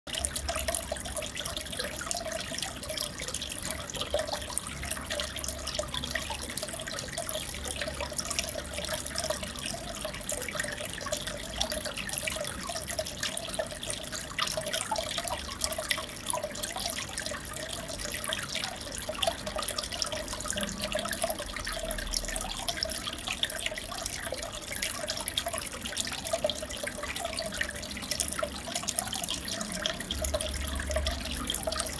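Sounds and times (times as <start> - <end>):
aquarium water trickling and bubbling: 0.1 - 31.9.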